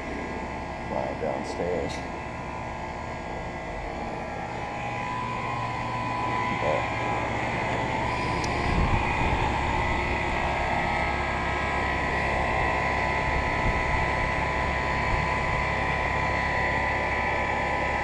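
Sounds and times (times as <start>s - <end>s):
compressor hum: 0.0s - 18.0s
condenser fan whoosh: 0.0s - 18.0s.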